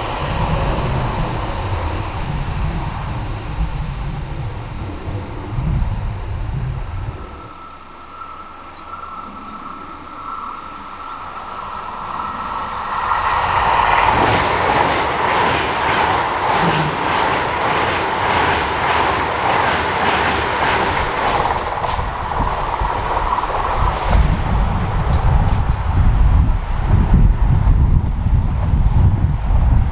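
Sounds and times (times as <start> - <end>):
train passing at speed: 0.0 - 29.9
wheels clattering on rail: 0.0 - 29.9
wind buffeting microphone: 0.0 - 29.9.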